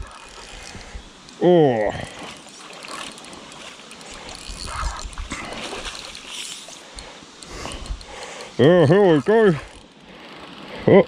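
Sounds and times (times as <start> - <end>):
water splashing: 0.0 - 10.8.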